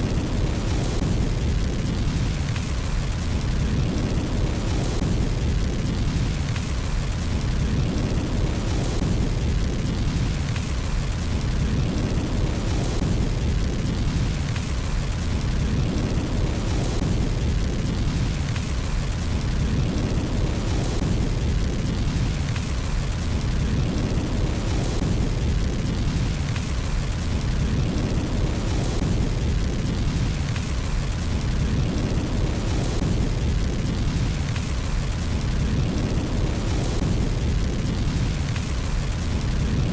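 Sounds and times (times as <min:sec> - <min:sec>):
fire crackling: 0:00.0 - 0:39.9
wood fire burning: 0:00.0 - 0:39.9.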